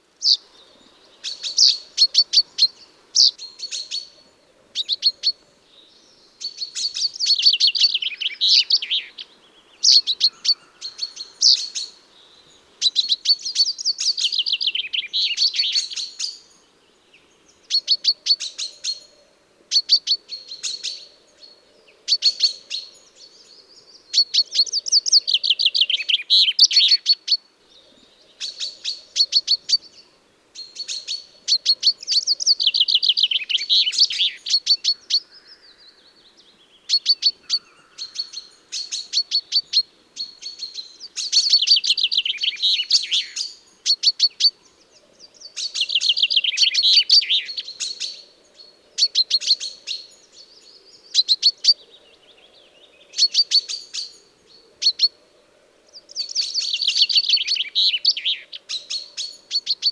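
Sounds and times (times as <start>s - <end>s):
chaffinch singing: 0.0s - 55.2s, 55.9s - 59.9s.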